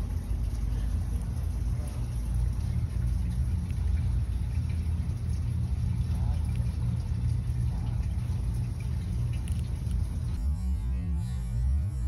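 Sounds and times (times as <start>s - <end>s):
low machine rumble: 0.0s - 12.0s.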